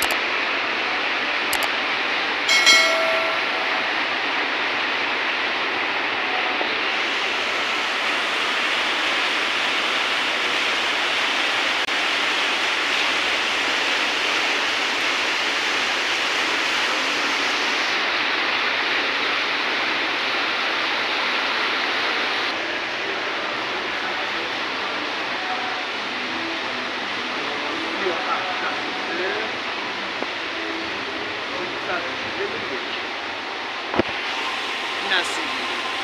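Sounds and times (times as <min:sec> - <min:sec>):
waterfall rushing: 0:02.5 - 0:36.0.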